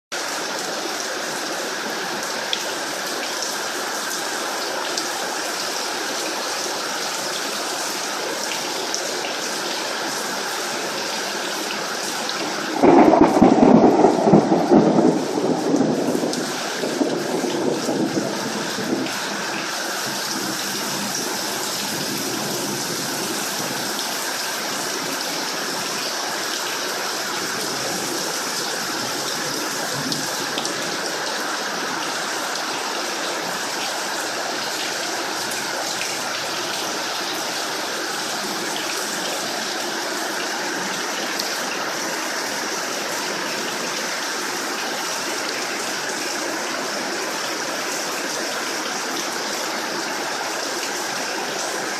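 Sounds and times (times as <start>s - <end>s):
running water: 0.1s - 51.9s
heavy rain pouring: 0.2s - 51.9s.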